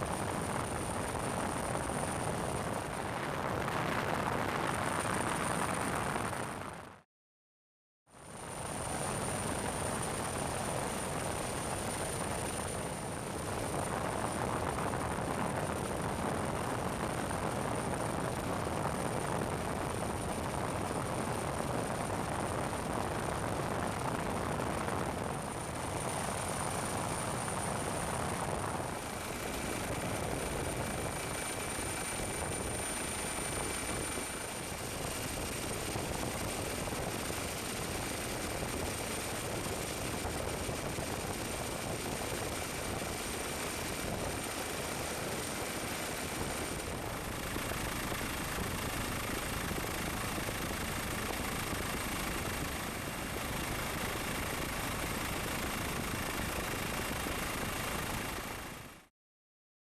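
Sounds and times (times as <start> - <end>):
helicopter noise: 0.0 - 7.0, 8.2 - 59.1.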